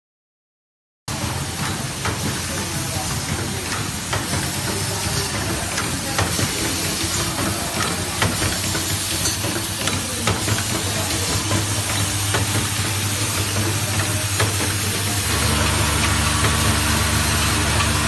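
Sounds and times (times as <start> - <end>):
machine hiss and hum: 1.1 - 18.0.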